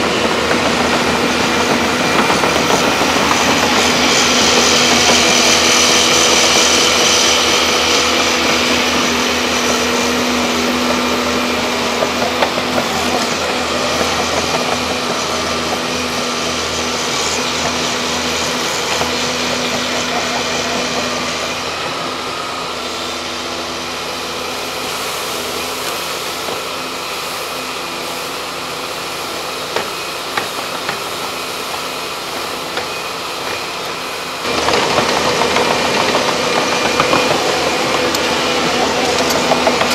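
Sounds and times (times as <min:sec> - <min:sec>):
excavator diesel engines: 0:00.0 - 0:39.9.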